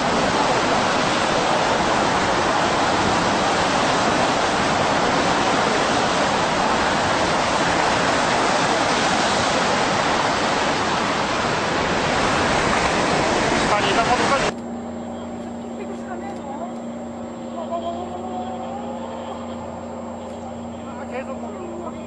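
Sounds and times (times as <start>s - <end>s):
water rushing and churning: 0.0s - 22.0s.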